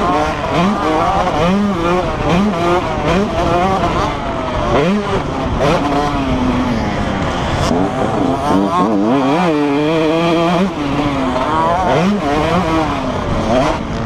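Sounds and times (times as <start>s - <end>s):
motocross bike engines revving: 0.0s - 14.0s.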